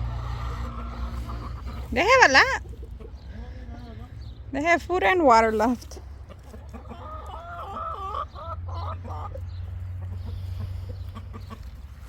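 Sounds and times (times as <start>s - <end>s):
chicken clucking: 0.0s - 4.4s, 5.7s - 12.0s.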